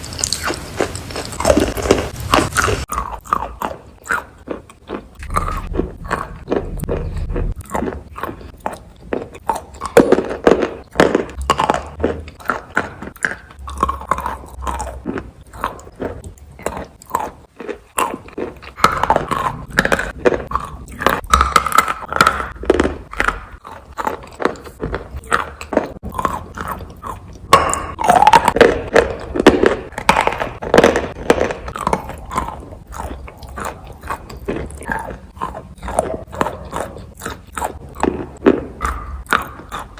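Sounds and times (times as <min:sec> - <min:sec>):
person chewing crunchy food: 0:00.0 - 0:39.9
wet mouth sounds: 0:00.0 - 0:39.9.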